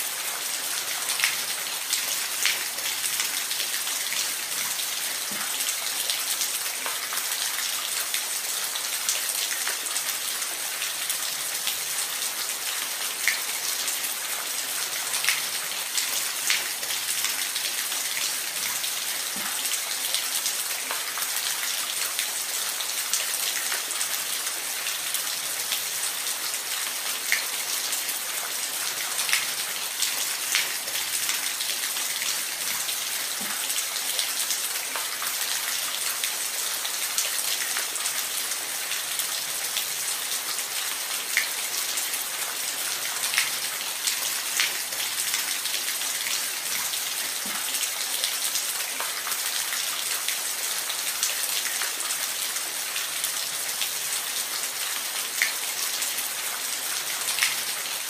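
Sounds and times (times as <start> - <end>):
steady rain in a forest: 0.0 - 58.0.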